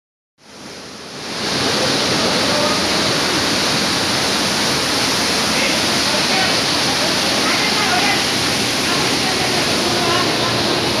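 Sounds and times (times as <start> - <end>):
waterfall rushing: 0.4 - 11.0.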